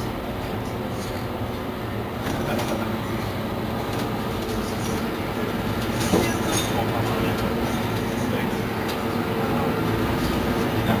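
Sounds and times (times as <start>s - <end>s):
bus engine drone and rattling: 0.0s - 11.0s.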